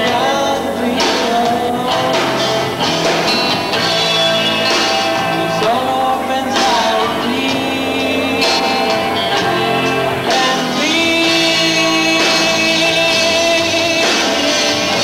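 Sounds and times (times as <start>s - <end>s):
drum kit: 0.0s - 15.0s
electric guitars: 0.0s - 15.0s.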